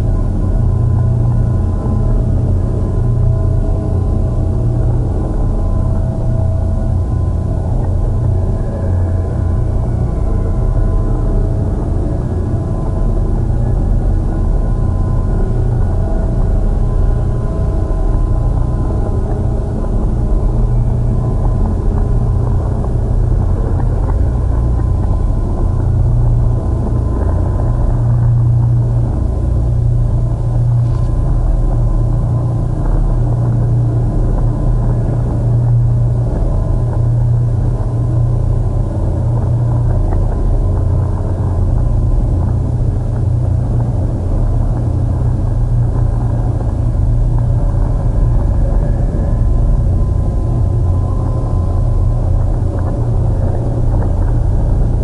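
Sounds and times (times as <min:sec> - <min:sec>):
processed low rumbling drone: 0:00.0 - 0:55.0.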